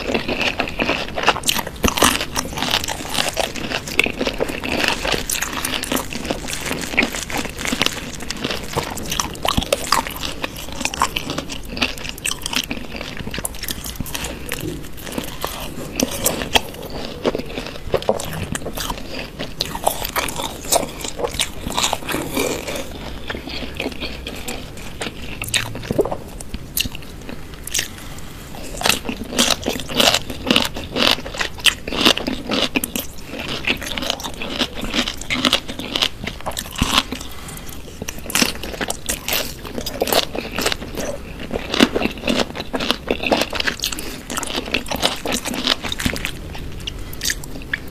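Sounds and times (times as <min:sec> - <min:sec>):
crunching raw vegetables: 0:00.0 - 0:47.9.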